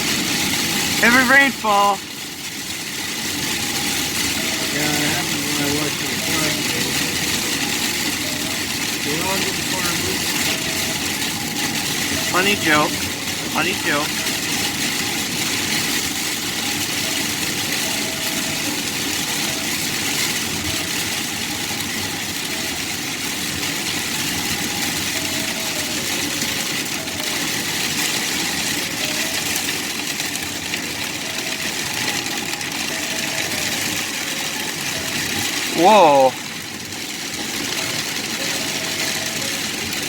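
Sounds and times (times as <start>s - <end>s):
heavy rain on a car: 0.0s - 40.0s.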